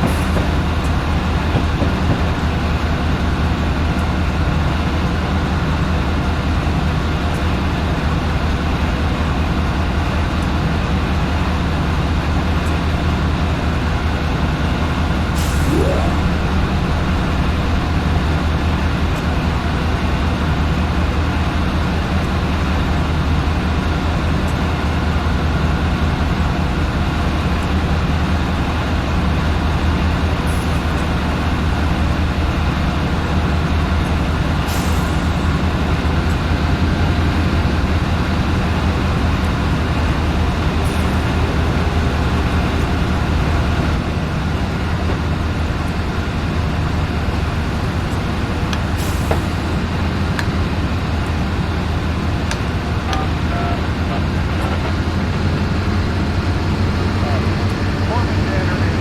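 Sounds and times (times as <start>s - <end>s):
diesel train engine humming: 0.0s - 59.0s.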